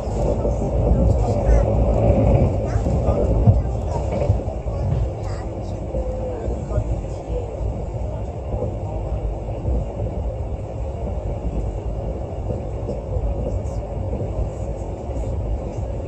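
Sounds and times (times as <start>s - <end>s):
train rumbling from inside carriage: 0.0s - 16.0s.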